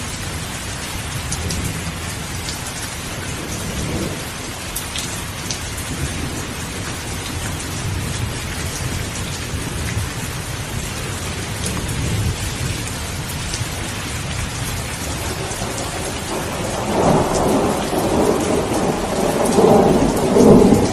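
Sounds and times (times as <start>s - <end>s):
heavy rain: 0.0s - 20.9s
thunder rumbling: 0.0s - 20.9s.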